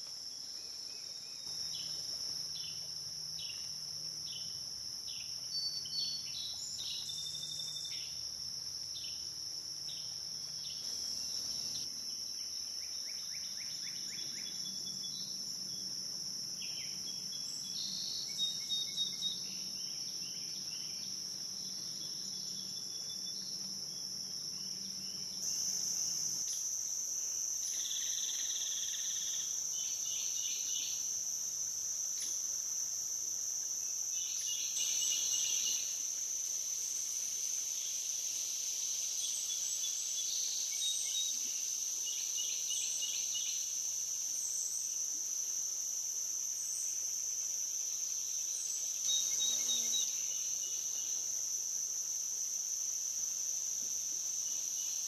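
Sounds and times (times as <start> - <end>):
high-pitched insect drone: 0.4 - 55.0.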